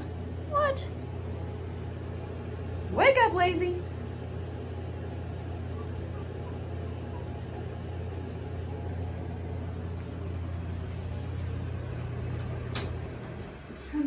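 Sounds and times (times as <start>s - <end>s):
electrical appliance humming: 0.0s - 14.0s.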